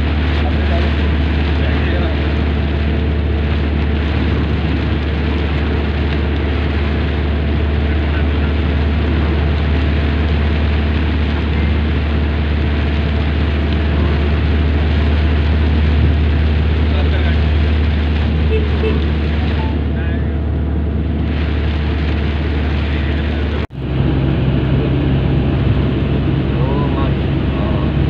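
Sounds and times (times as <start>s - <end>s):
engine and tyre hum: 0.0s - 28.0s
tyres hissing on wet road: 0.0s - 28.0s.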